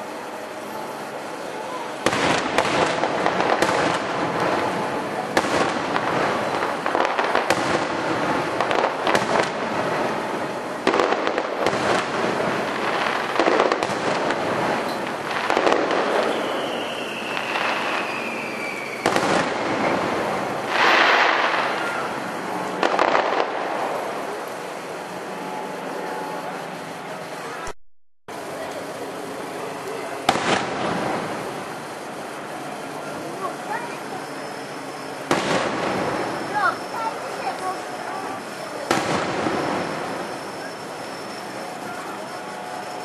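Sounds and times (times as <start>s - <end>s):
fireworks bursting: 0.0s - 43.0s
fireworks crackle: 0.0s - 43.0s.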